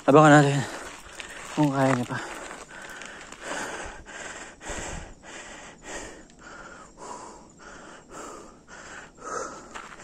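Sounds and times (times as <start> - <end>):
person breathing hard and fast: 0.6 - 10.0.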